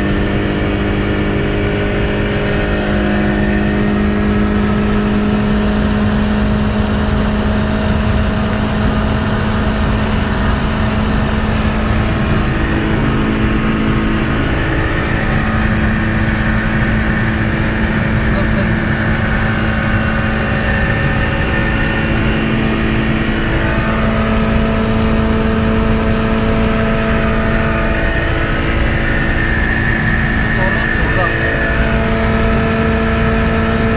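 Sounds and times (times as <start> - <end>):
car engine running: 0.0 - 33.9
wind and road noise: 0.0 - 33.9.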